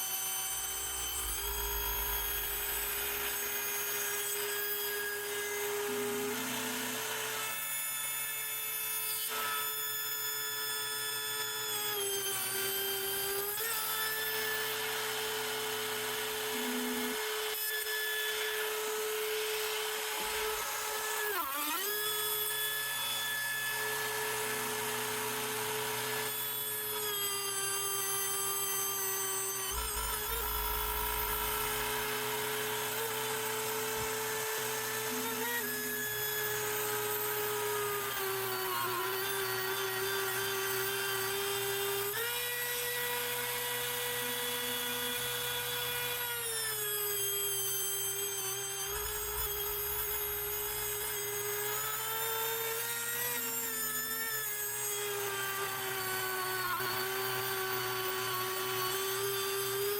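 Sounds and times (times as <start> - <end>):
router spindle whine: 0.0 - 59.9.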